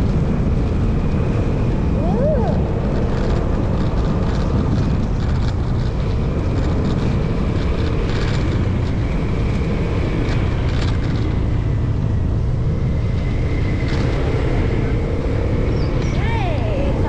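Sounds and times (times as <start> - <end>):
low rushing noise: 0.0 - 17.0
motorcycle engine running: 0.0 - 17.0.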